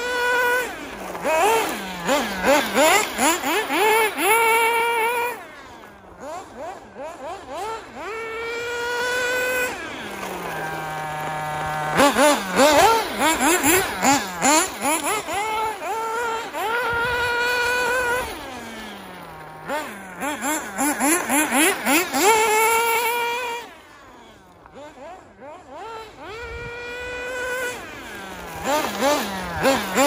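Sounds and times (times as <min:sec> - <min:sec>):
model car engine revving: 0:00.0 - 0:30.0.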